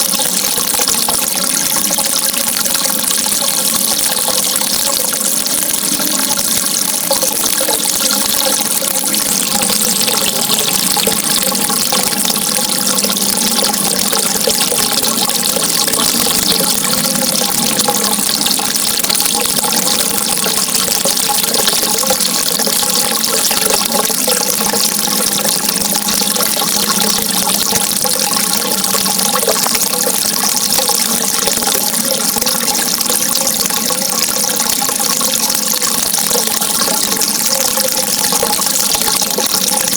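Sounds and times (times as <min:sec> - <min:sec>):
water running: 0:00.0 - 0:39.9.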